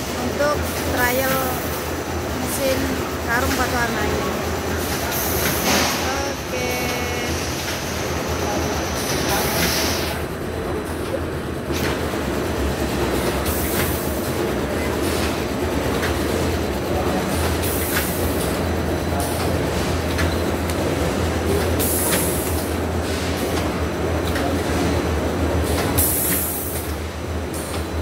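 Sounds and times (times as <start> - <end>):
printing machine humming: 0.0 - 28.0.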